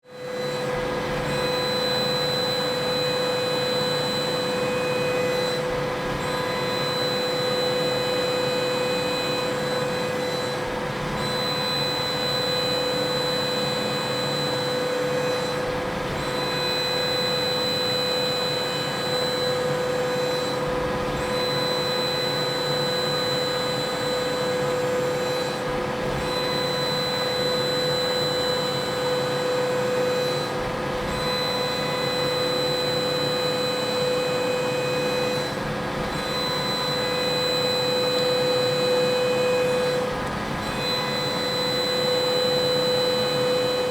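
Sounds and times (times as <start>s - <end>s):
milling machine cutter whine: 0.1s - 43.9s.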